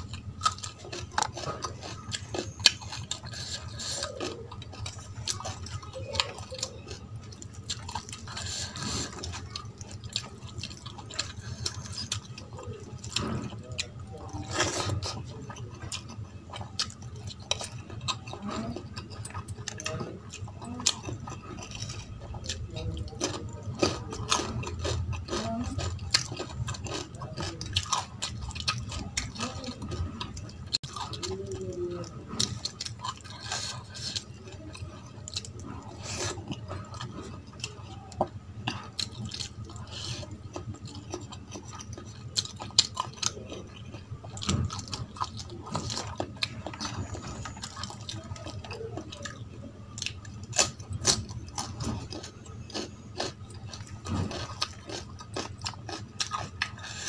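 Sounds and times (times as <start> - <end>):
wet chewing and lip smacking: 0.0 - 57.0.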